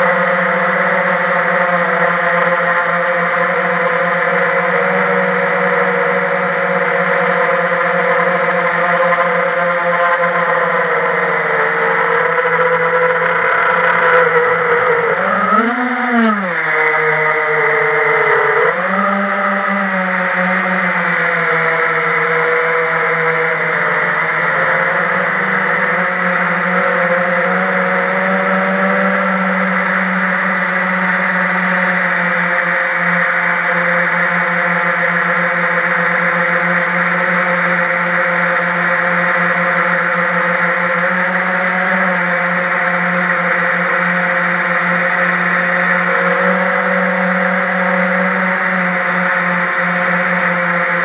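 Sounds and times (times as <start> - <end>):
quadcopter propellers whirring: 0.0 - 51.0.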